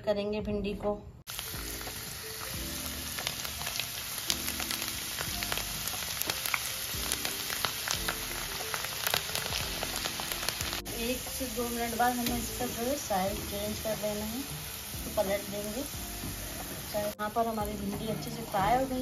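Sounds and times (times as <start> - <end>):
okra sizzling in hot oil: 1.3 - 19.0.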